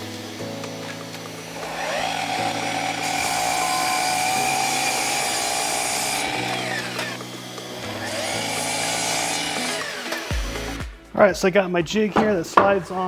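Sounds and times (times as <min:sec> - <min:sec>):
miter saw cutting wood: 0:00.0 - 0:10.8.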